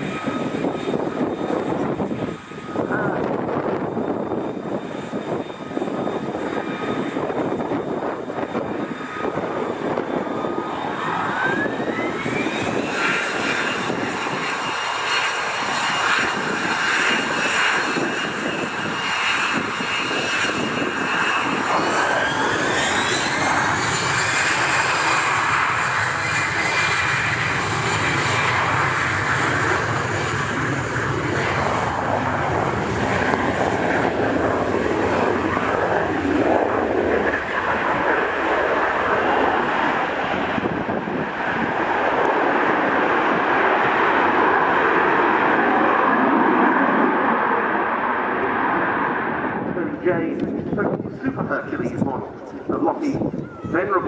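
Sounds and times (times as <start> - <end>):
jet engine spooling up: 0.0 - 54.0.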